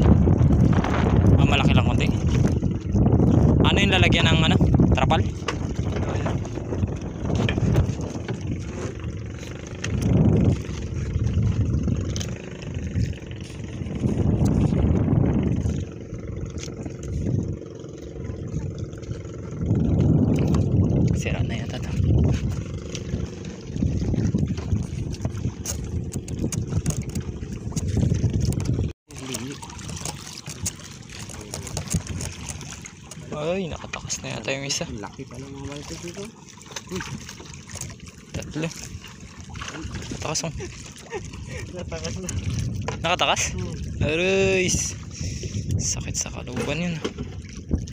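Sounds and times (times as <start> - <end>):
small boat engine running: 0.0 - 47.9
water splashing at hull: 0.0 - 47.9
wind buffeting microphone: 0.0 - 47.9.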